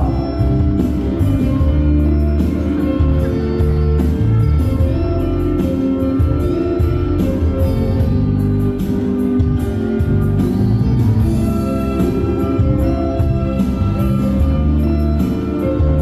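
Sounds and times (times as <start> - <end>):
music with steady bass line: 0.0 - 16.0.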